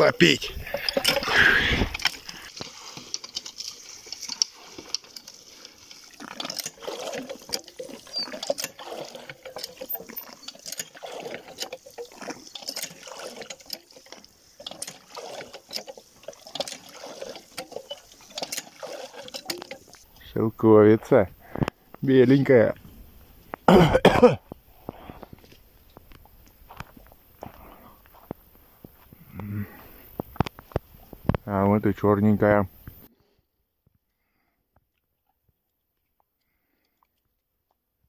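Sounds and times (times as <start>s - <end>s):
cows slurping water: 0.0s - 23.8s, 24.4s - 31.5s, 34.9s - 38.0s.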